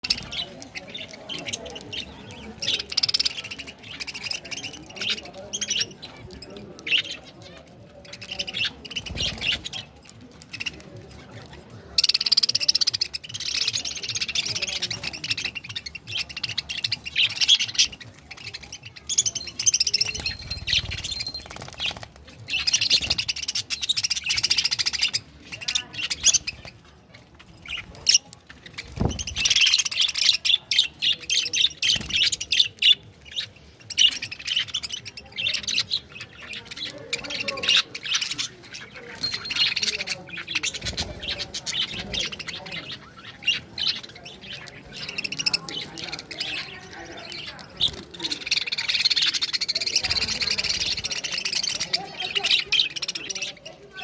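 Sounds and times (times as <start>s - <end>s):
budgerigars chattering and squawking: 0.0s - 54.0s.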